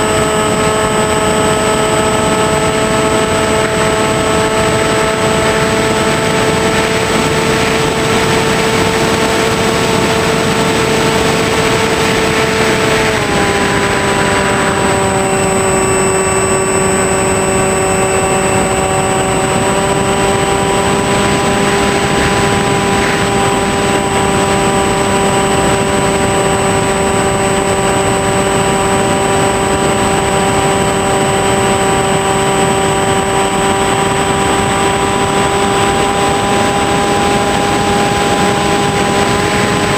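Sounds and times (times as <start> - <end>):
electric motor and propeller whining: 0.0 - 39.9
wind rushing over microphone: 0.0 - 39.9.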